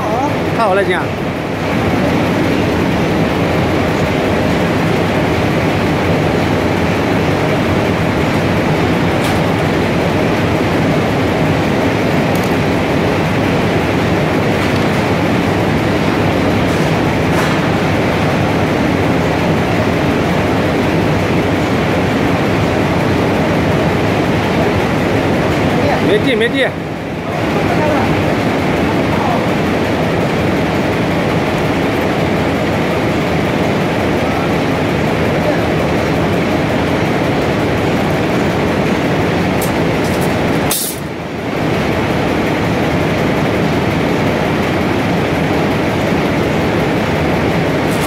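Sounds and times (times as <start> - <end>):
textile machinery clattering: 0.0 - 48.0.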